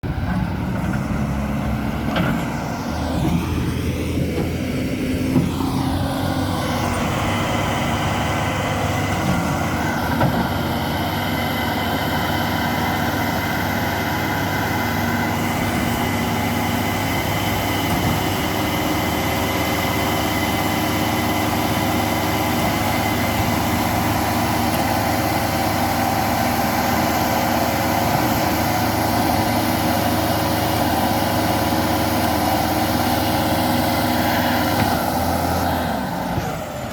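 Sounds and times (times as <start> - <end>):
diesel engine running: 0.0 - 36.9
high turbo whine: 0.0 - 36.9.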